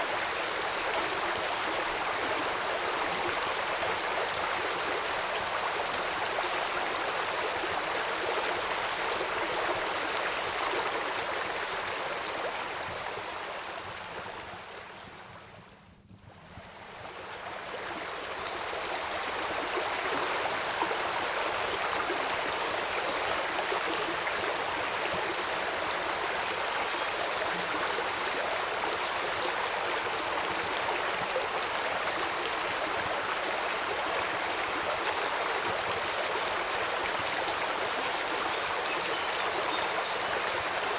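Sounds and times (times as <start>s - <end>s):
river water rushing: 0.0s - 14.8s, 16.8s - 40.9s.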